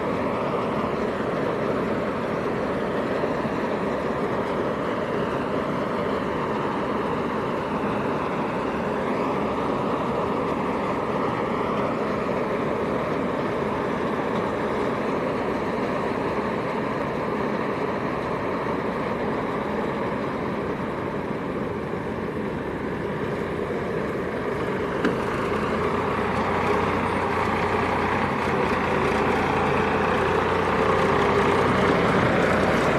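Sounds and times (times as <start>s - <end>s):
combine harvester engine drone: 0.0s - 32.9s.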